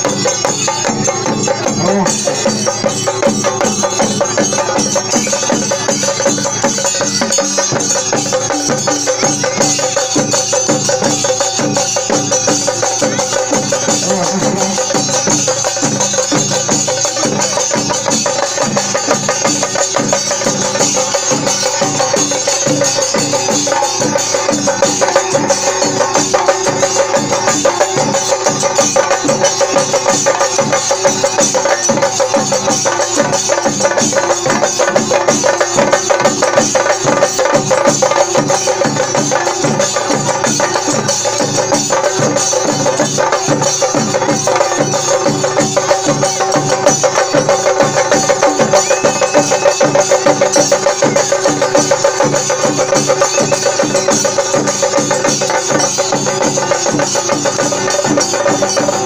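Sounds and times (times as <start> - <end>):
drums beaten with sticks: 0.0 - 59.0.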